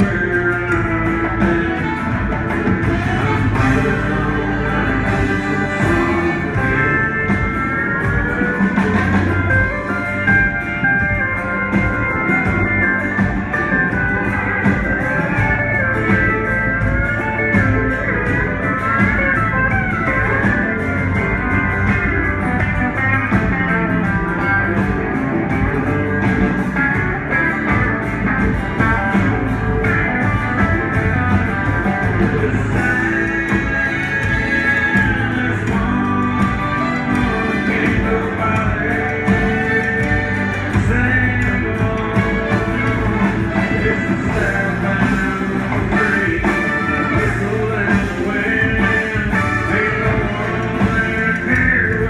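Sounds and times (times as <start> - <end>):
lead guitar bending notes: 0.0 - 52.0
live band playing: 0.0 - 52.0.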